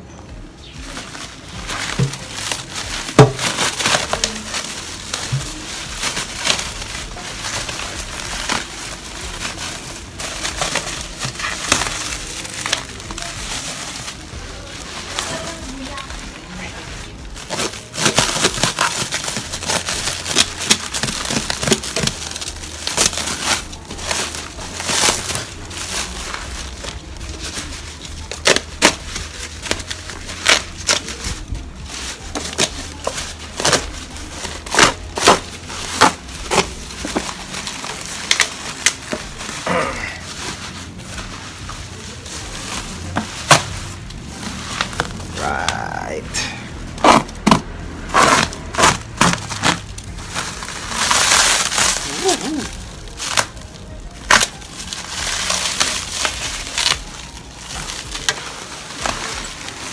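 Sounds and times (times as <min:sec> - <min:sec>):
packaging crinkling: 0:00.6 - 0:59.9
sharp crackles: 0:00.6 - 0:59.9.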